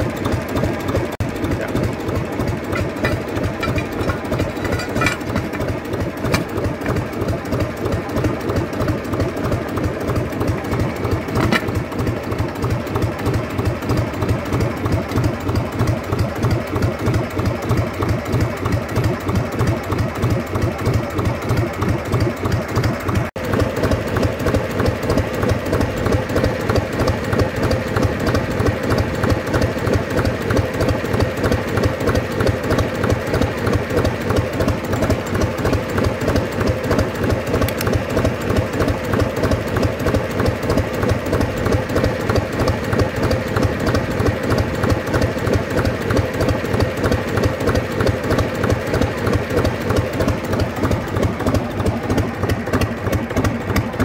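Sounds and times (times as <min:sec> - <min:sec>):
diesel engine running slowly: 0:00.0 - 0:54.0.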